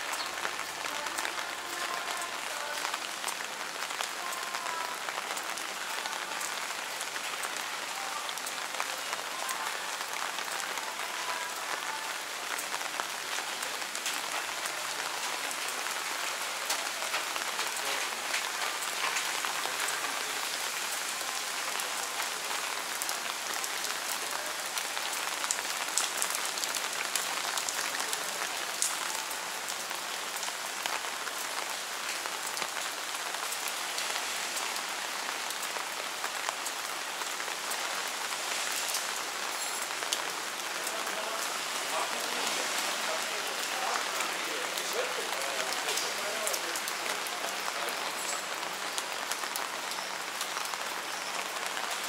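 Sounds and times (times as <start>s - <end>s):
rain on wet pavement: 0.0s - 52.0s.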